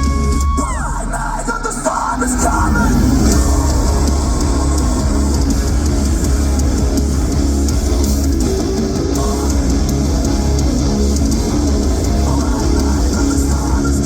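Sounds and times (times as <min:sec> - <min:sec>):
bass guitar: 0:00.0 - 0:14.0
strummed electric guitars: 0:00.0 - 0:14.0.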